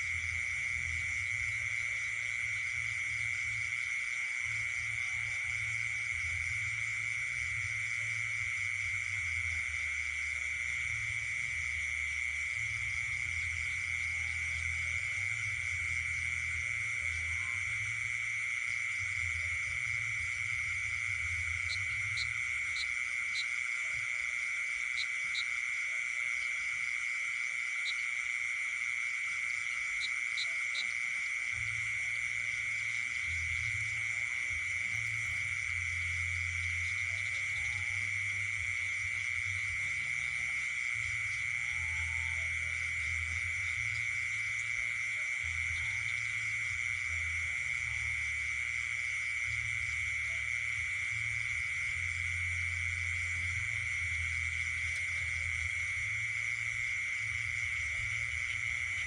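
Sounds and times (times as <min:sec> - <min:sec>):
frogs calling: 0:00.0 - 0:59.0
high insect trill: 0:00.0 - 0:59.0.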